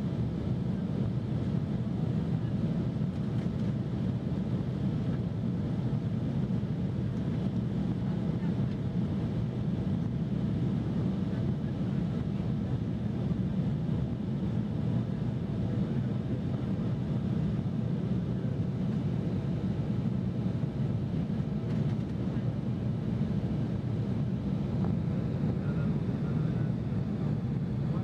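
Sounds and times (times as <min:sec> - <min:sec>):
jet engine drone in cabin: 0:00.0 - 0:28.0.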